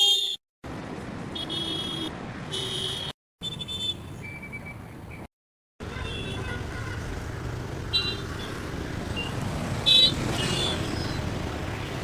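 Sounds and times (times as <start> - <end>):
traffic engines rumbling: 0.0 - 12.0.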